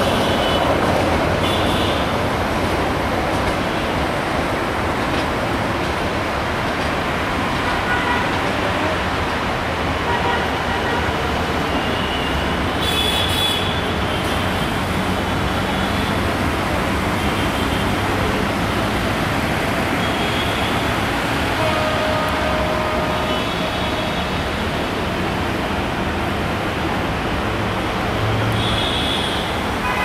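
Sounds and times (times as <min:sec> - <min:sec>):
passenger train running on track: 0:00.0 - 0:30.0
road traffic: 0:00.0 - 0:30.0.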